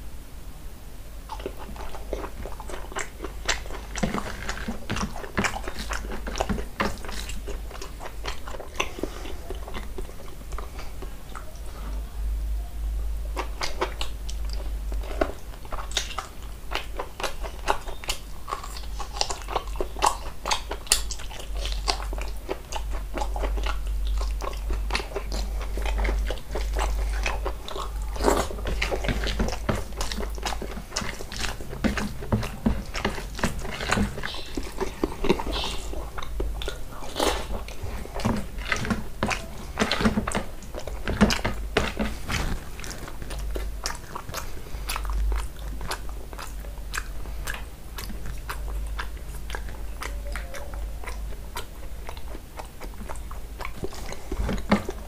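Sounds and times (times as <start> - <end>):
steady low hum: 0.0 - 55.0
man chewing food: 1.1 - 55.0.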